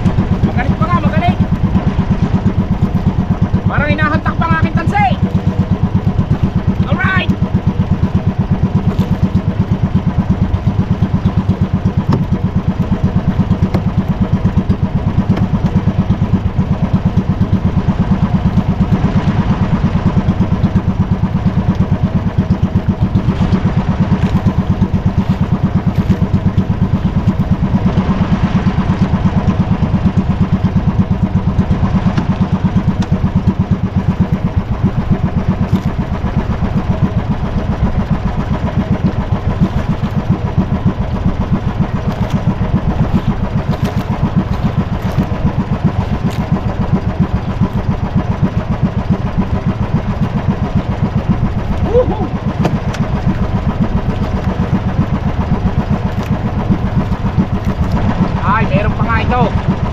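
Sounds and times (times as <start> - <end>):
small boat engine chugging: 0.0 - 59.9.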